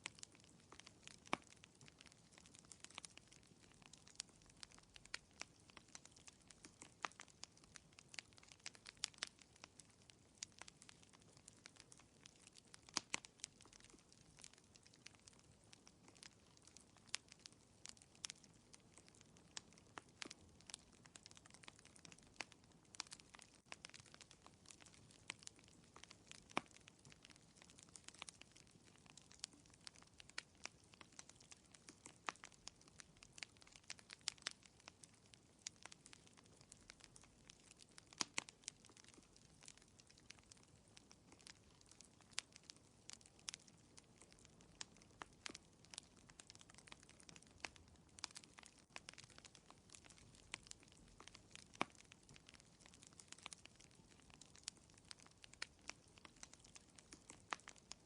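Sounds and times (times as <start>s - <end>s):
soft low hiss: 0.0s - 58.0s
wood fire crackling: 0.0s - 58.0s.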